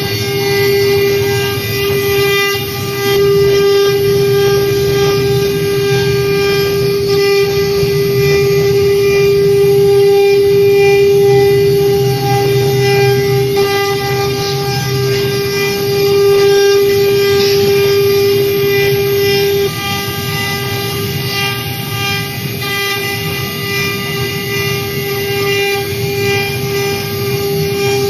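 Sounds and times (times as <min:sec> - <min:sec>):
router cutting wood: 0:00.0 - 0:28.0
spindle whine: 0:00.0 - 0:28.0.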